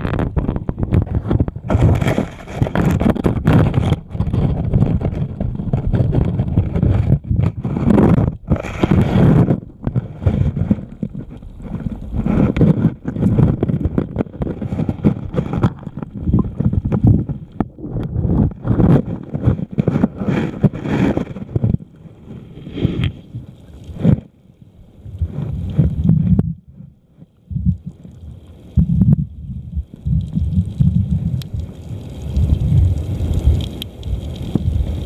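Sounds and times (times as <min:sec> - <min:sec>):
muffled underwater river rumble: 0:00.0 - 0:35.0.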